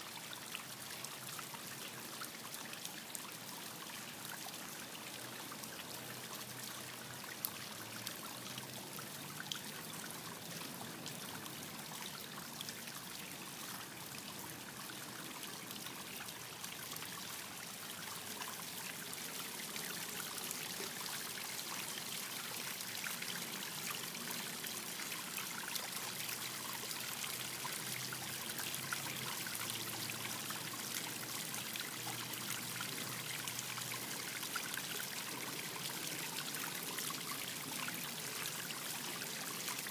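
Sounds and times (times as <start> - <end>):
water trickling in a pond: 0.0 - 39.9.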